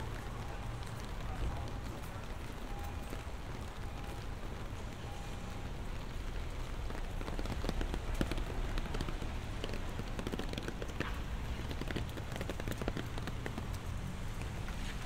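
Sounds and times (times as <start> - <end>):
rain drops ticking: 0.0 - 15.0
rain falling on street: 0.0 - 15.0.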